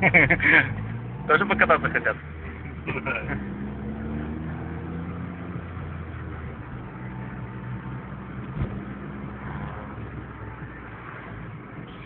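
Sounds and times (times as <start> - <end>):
car engine running: 0.0 - 10.8
road noise inside car: 0.0 - 12.0.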